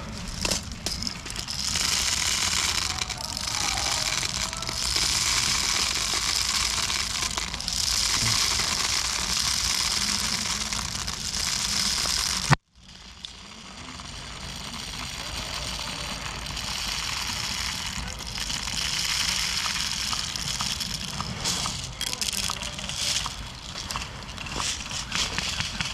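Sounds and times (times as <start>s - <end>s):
crackling rustling noise: 0.0s - 25.9s.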